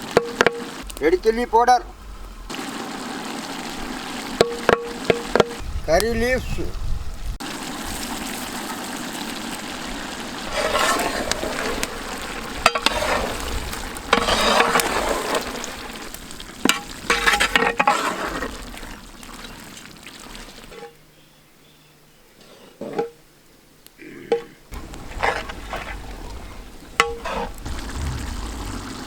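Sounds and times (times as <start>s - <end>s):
curry sizzling in a pot: 0.0s - 5.6s, 7.4s - 21.3s, 24.7s - 29.0s.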